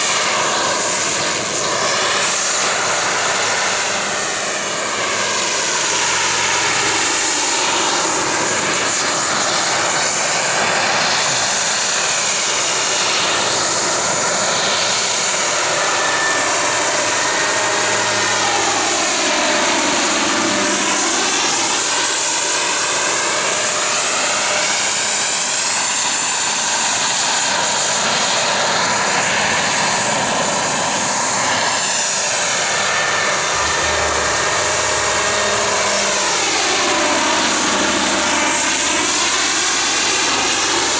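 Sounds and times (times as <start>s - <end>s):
helicopter engine and rotor whine: 0.0s - 40.9s.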